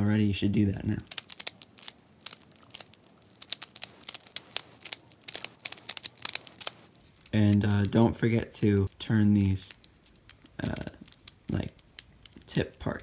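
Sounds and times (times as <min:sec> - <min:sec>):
plastic puzzle clicking as twisted: 0:01.0 - 0:13.0.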